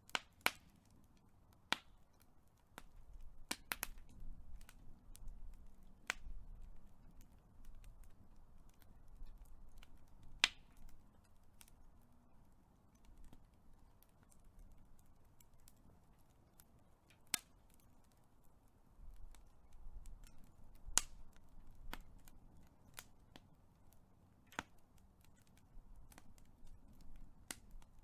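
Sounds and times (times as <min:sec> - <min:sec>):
sharp fire snaps: 0:00.0 - 0:28.0
wood fire crackling: 0:00.0 - 0:28.0.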